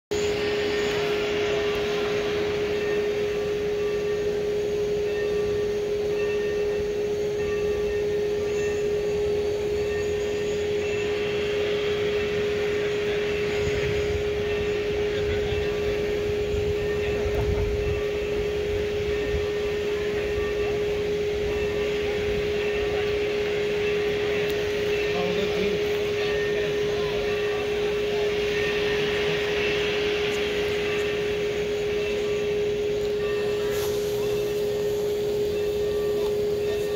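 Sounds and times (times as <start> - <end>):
steam locomotive running: 0.1 - 36.9.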